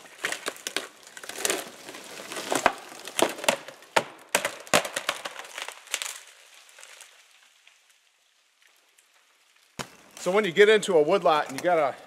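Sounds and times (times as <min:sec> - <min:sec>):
tree trunk cracking as it falls: 0:00.0 - 0:11.9.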